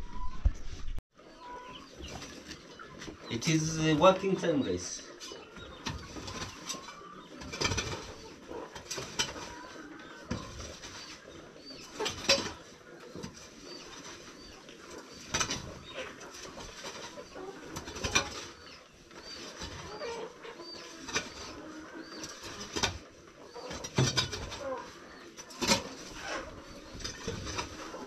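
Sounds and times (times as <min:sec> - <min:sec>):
birds calling faintly: 0:00.0 - 0:28.0.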